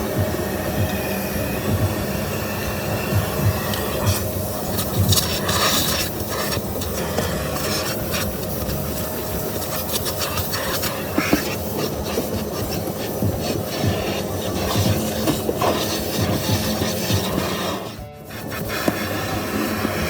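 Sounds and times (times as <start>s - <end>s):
vacuum running with hiss: 0.0s - 20.0s
vacuum nozzle rubbing and clicking: 3.6s - 20.0s.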